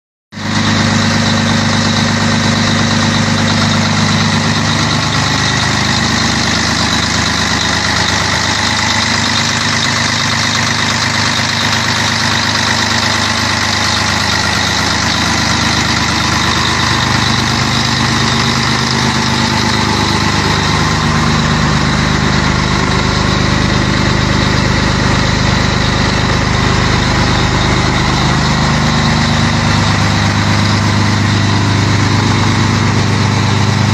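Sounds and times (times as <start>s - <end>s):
diesel truck engine idling: 0.4s - 33.9s.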